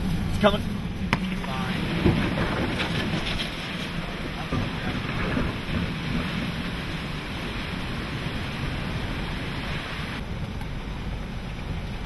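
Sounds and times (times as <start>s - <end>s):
strong wind and rain: 0.0s - 12.0s
wind buffeting microphone: 0.0s - 12.0s.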